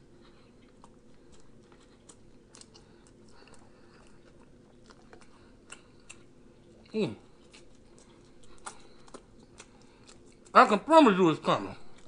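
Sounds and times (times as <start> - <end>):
person chewing food: 0.0 - 10.6, 11.8 - 12.0.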